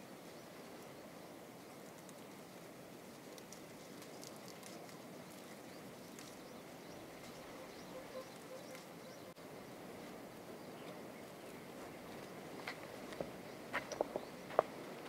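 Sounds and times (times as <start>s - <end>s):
quiet rural background: 0.0s - 15.0s
rustling of leafy foliage: 0.0s - 15.0s.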